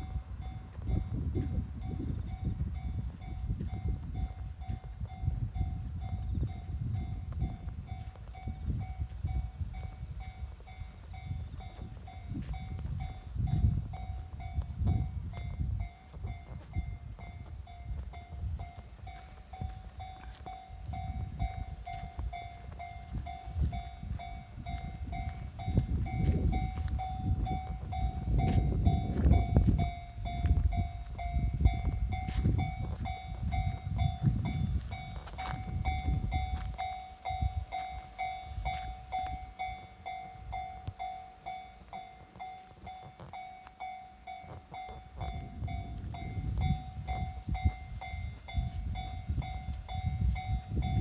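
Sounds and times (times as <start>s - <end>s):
level-crossing warning bell: 0.0s - 51.0s
train rumble and wheel clatter: 0.0s - 51.0s.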